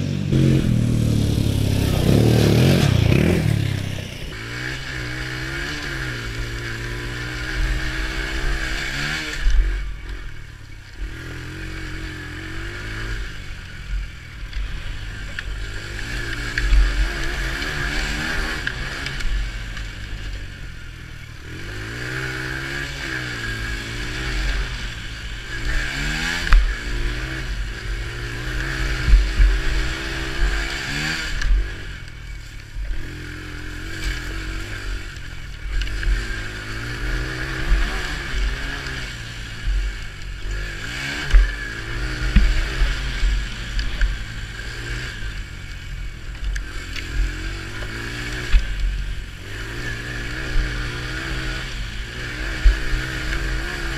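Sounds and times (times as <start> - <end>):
quad bike engine revving: 0.0 - 53.9.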